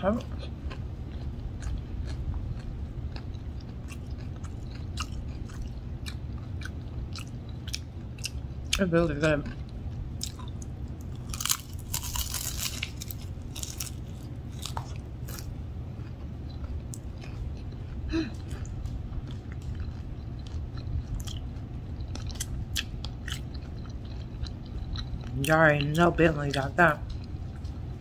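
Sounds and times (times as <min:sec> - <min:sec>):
steady low hum: 0:00.0 - 0:28.0
crunchy chewing: 0:00.1 - 0:28.0
wet chewing and mouth clicks: 0:00.2 - 0:28.0.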